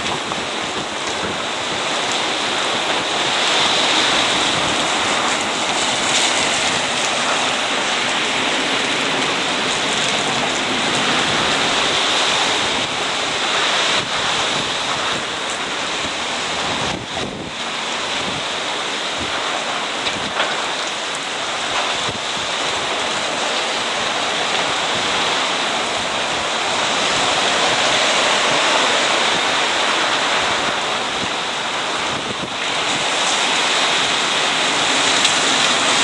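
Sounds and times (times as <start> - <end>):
heavy rain: 0.0 - 36.0
strong wind: 0.0 - 36.0.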